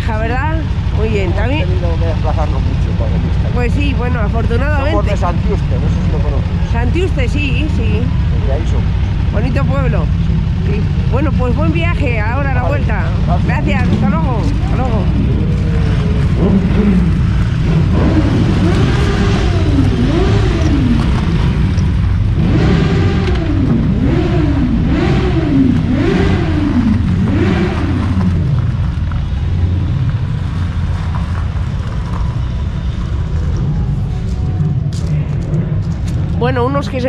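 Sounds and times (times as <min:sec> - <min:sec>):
motorcycle engine revving: 0:00.0 - 0:37.0
motorcycle engines rumbling: 0:00.0 - 0:37.0.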